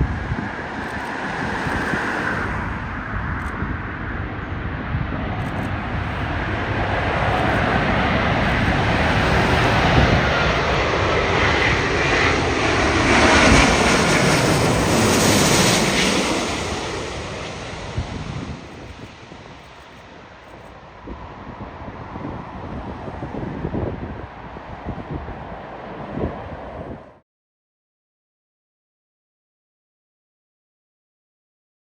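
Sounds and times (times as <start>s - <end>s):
jet airliner flying past: 0.0s - 27.2s.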